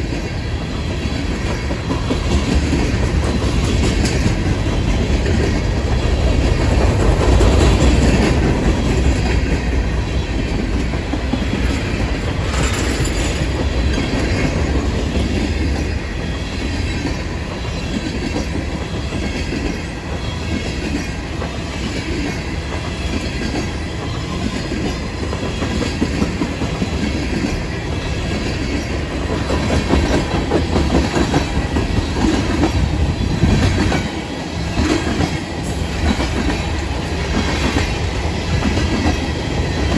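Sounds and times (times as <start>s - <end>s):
railroad cars rumbling past: 0.0s - 39.9s
train wheel clatter: 0.0s - 39.9s.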